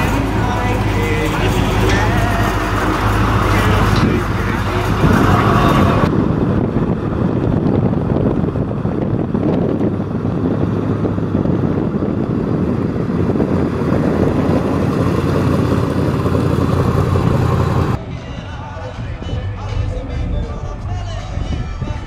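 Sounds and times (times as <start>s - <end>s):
car engine rumbling: 0.0s - 21.9s.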